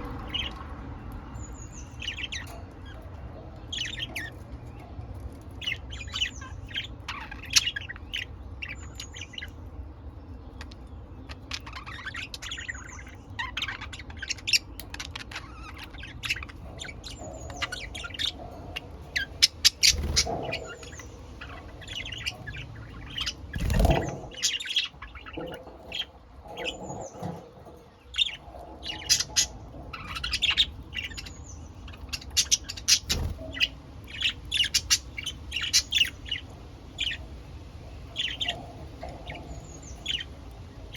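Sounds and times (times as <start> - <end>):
budgerigars chirping: 0.0 - 9.6, 10.5 - 40.9.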